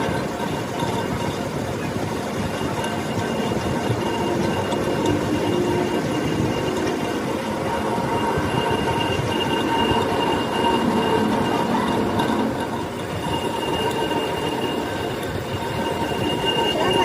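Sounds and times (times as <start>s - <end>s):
high whine: 0.0s - 17.0s
metalworking machine grinding: 0.0s - 17.0s.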